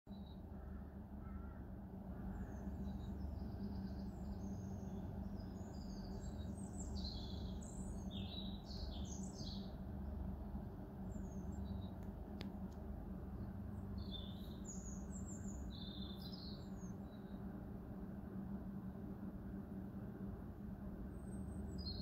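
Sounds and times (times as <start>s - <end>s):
low background hum: 0.1s - 22.0s.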